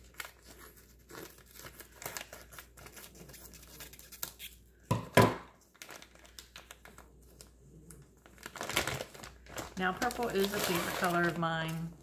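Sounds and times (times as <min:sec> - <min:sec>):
packaging tearing: 0:00.0 - 0:04.7, 0:05.6 - 0:12.0
packaging crinkling: 0:00.0 - 0:04.8, 0:05.6 - 0:12.0.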